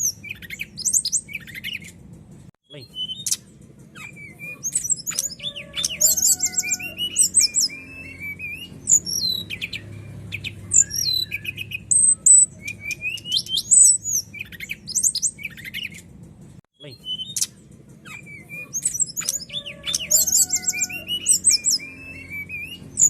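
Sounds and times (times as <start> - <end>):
bird singing whistled song: 0.0 - 2.0, 2.7 - 16.1, 16.8 - 23.0.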